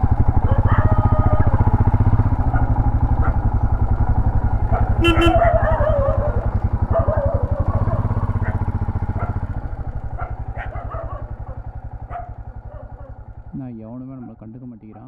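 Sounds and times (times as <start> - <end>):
motorcycle engine thumping: 0.0 - 13.5.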